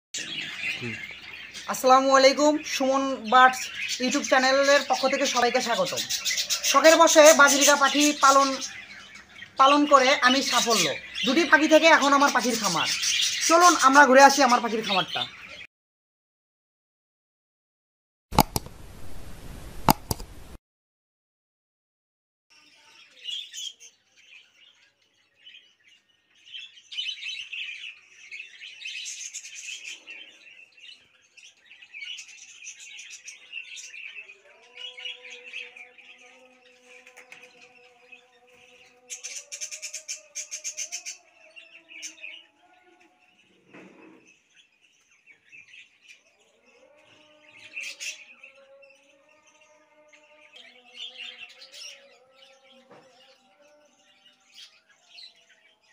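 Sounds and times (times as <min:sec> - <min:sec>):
budgerigars chirping and chattering: 0:00.2 - 0:15.6, 0:22.6 - 0:49.0, 0:50.6 - 0:55.9.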